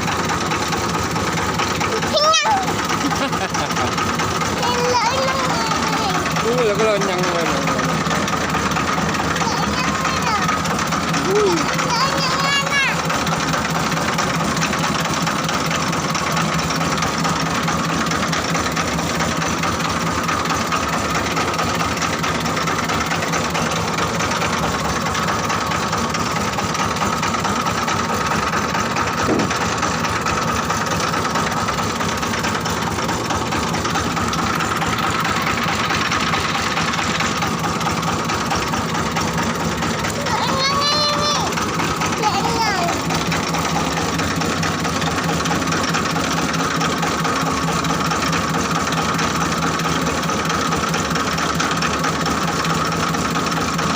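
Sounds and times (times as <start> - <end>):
diesel engine running: 0.0 - 53.9
machine rattling and whining: 0.0 - 53.9.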